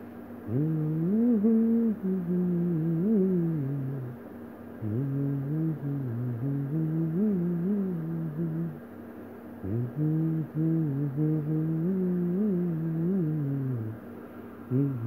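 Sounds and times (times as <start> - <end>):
person humming a slow tune: 0.5 - 4.2, 4.8 - 8.8, 9.6 - 14.0, 14.6 - 15.0.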